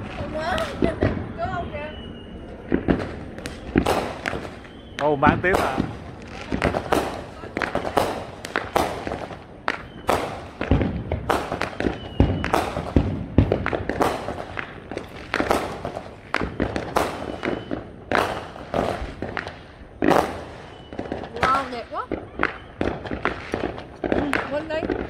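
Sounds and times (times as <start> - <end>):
deep firework booms: 0.0 - 25.0
fireworks bangs and crackling: 0.0 - 25.0.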